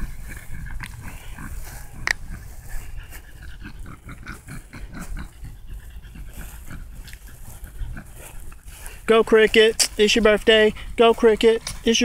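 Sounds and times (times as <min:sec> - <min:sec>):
dog breathing hard: 0:00.0 - 0:12.0.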